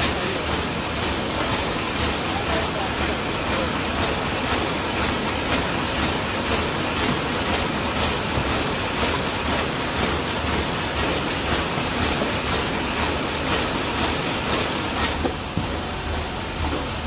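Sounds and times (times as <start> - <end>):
bag making machine clattering: 0.0 - 17.0.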